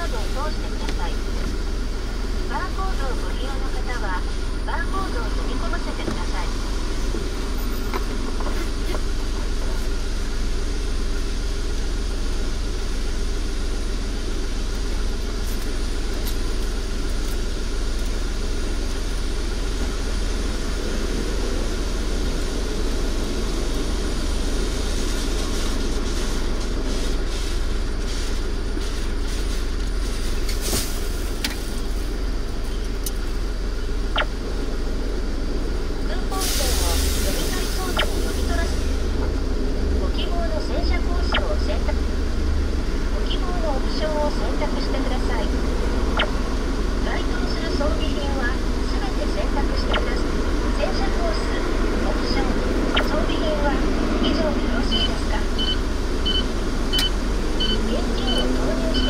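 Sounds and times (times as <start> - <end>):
low mechanical drone: 0.0 - 59.0.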